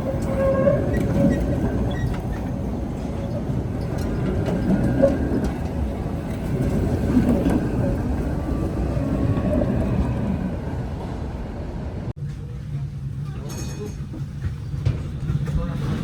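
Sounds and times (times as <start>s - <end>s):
tram wheels rumbling and rattling: 0.0s - 16.0s.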